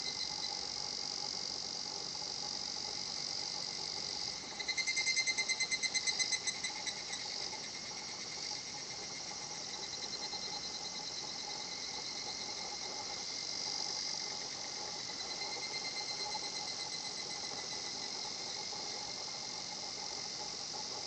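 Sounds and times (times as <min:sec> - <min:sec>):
cicada pulsing call: 0:00.0 - 0:21.0
high-pitched insect chorus: 0:00.0 - 0:21.0.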